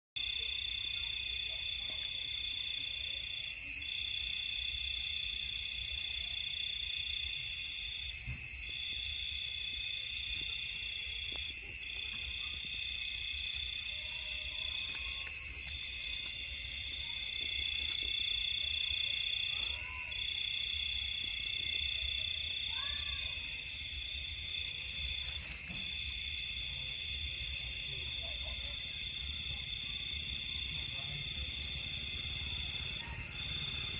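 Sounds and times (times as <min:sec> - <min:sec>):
crickets trilling: 0:00.2 - 0:33.9.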